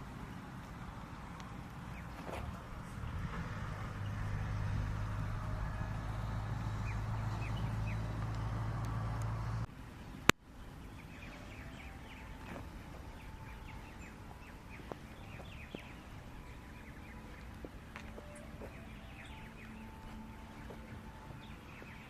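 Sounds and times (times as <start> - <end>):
birds chirping: 0.0 - 22.0
vehicle engine hum: 0.0 - 22.0.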